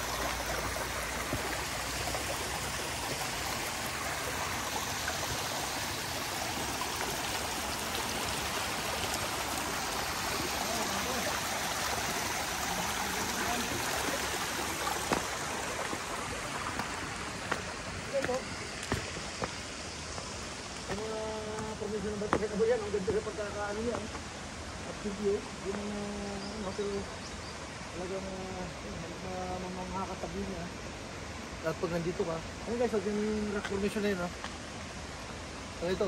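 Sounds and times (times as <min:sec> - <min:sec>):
creek flowing over stones: 0:00.0 - 0:36.0.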